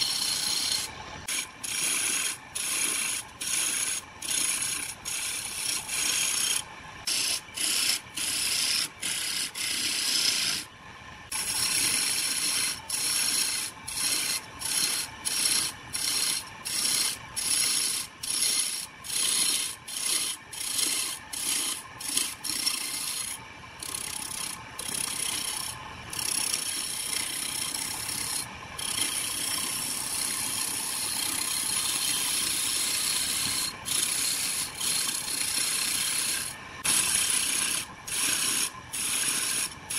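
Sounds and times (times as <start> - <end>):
chisel scraping spinning wood: 0.0 - 10.7, 11.3 - 39.9.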